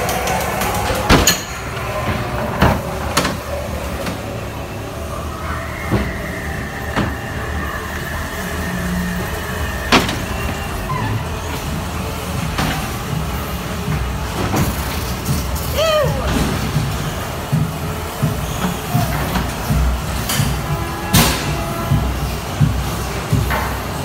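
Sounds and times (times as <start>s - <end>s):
ride car rumbling on track: 0.0s - 24.0s.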